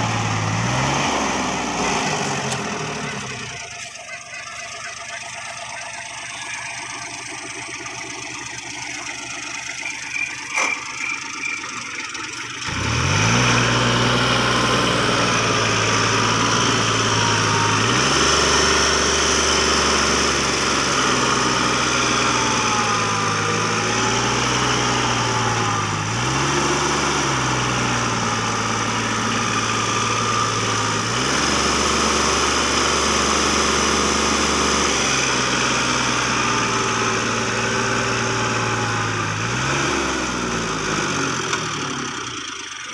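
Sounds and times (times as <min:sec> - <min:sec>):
heavy diesel engine revving: 0:00.0 - 0:42.9.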